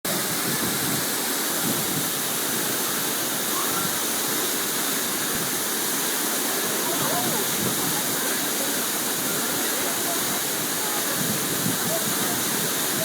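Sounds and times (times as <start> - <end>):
waterfall pouring: 0.1 - 13.0.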